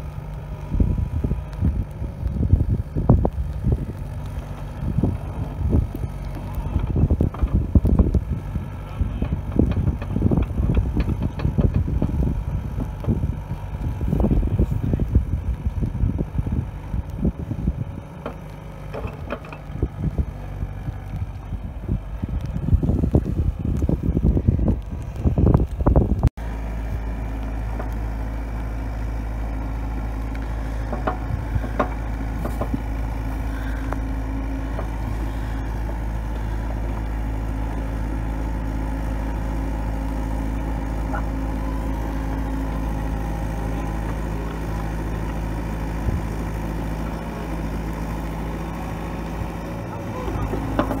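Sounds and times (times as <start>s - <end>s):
excavator diesel engine running: 0.0s - 51.0s
wind buffeting microphone: 0.5s - 18.3s, 19.0s - 27.1s, 29.2s - 51.0s.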